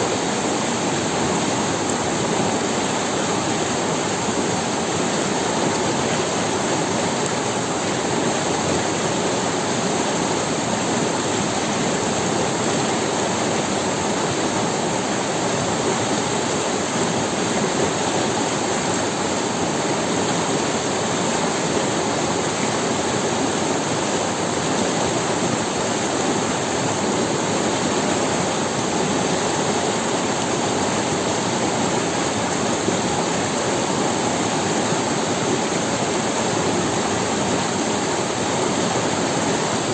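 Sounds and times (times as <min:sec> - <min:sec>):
river running over stones: 0:00.0 - 0:39.9.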